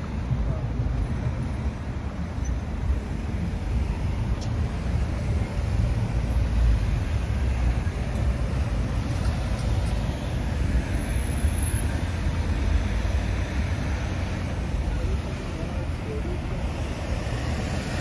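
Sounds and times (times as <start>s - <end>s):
bus driving past: 0.0s - 18.0s
road traffic rumble: 0.0s - 18.0s.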